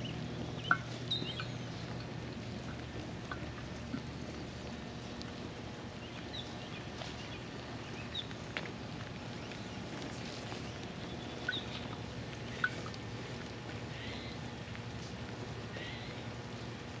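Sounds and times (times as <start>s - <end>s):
low steady hum: 0.0s - 17.0s
rain patter: 0.0s - 17.0s.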